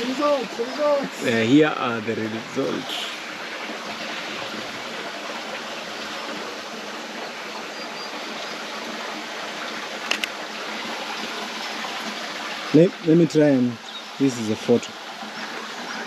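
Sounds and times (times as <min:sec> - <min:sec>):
water rushing from waterfall: 0:00.0 - 0:16.0.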